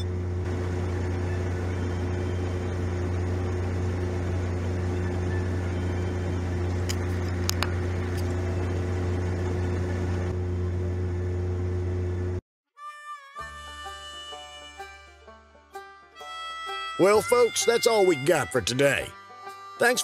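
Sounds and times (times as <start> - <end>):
truck engine idling: 0.0 - 12.4, 13.5 - 20.0.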